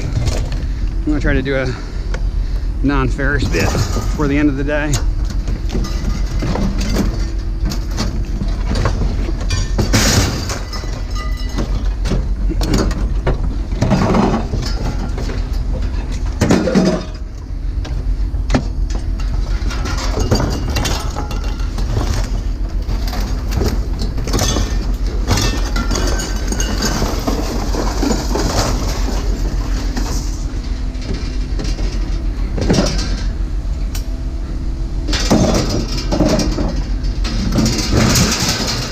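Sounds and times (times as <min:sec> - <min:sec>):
steady low rumble: 0:00.0 - 0:38.9
scrap metal rattling and clanking: 0:02.9 - 0:17.4, 0:18.0 - 0:33.9, 0:35.0 - 0:38.9.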